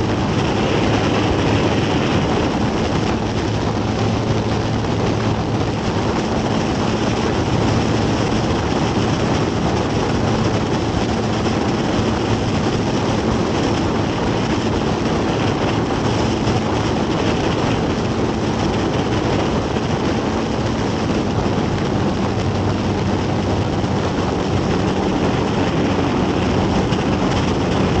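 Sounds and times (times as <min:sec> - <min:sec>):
airplane engine and propeller: 0:00.0 - 0:28.0
wind rush on microphone: 0:00.0 - 0:28.0.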